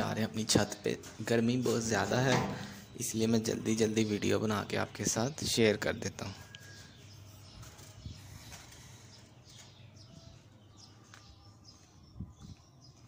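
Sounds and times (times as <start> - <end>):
faint bird chirps: 2.4 - 13.0.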